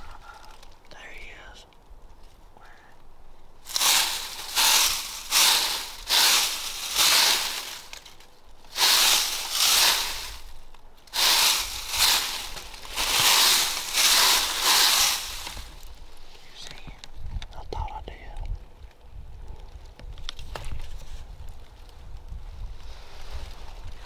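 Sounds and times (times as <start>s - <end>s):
crunching rustles in dry leaves: 0.0s - 17.2s, 19.1s - 24.0s.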